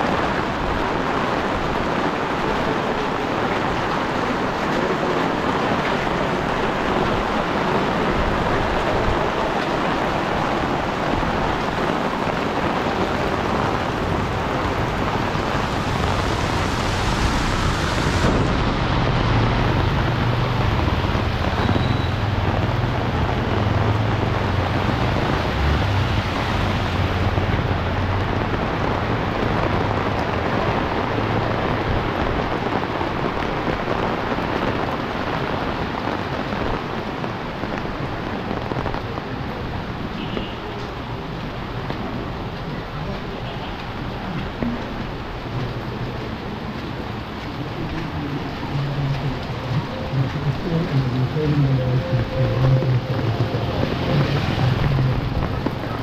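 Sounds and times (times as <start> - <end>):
heavy rain on pavement: 0.0 - 56.0.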